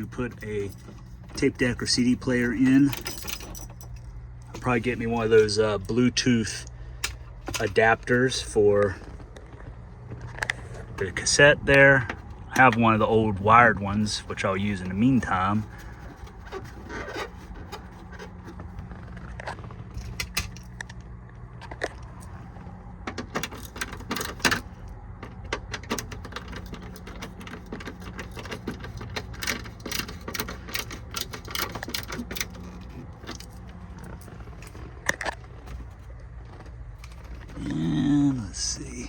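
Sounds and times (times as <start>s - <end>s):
screws and plastic trim rattling: 0.0s - 6.2s, 10.1s - 21.0s, 21.6s - 37.6s
steady low hum: 0.0s - 39.0s.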